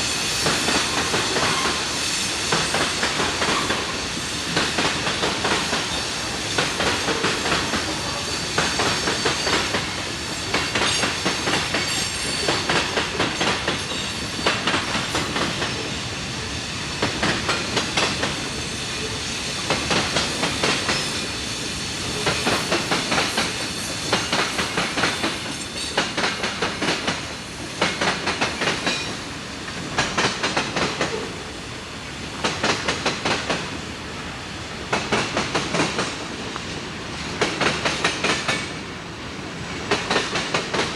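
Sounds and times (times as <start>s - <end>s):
train wheels clicking over joints: 0.0s - 31.4s, 32.0s - 38.9s, 39.5s - 40.9s
train rolling rumble: 0.0s - 40.9s.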